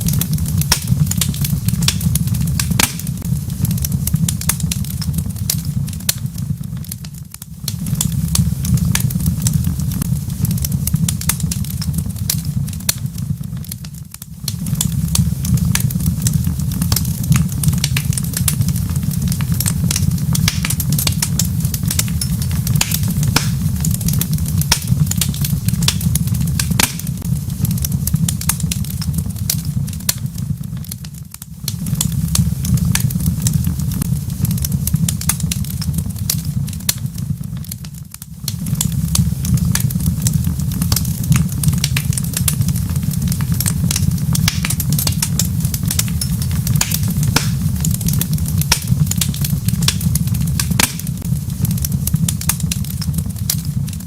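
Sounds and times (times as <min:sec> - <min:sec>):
low fire rumble: 0:00.0 - 0:54.0
wood fire popping and snapping: 0:00.0 - 0:54.0.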